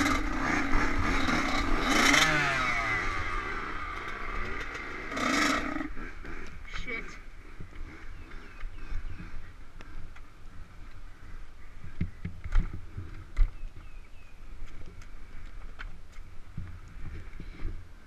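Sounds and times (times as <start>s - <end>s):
dirt bike rattling over trail: 0.0s - 18.0s.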